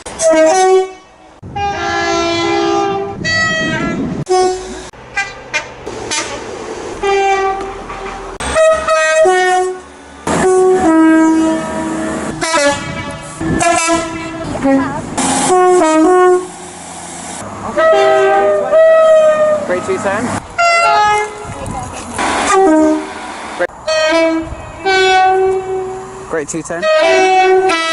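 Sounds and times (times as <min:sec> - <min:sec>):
two-tone train horn blasts: 0:00.1 - 0:06.4, 0:07.0 - 0:16.5, 0:17.7 - 0:19.9, 0:20.6 - 0:21.5, 0:22.5 - 0:23.2, 0:23.8 - 0:26.2, 0:26.8 - 0:27.9.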